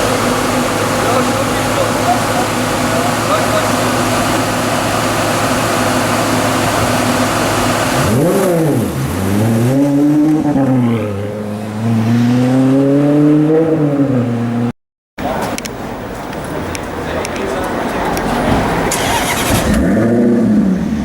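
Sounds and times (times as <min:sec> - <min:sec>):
car engine revving: 0:00.0 - 0:14.7, 0:17.9 - 0:21.0
road noise: 0:00.0 - 0:21.0.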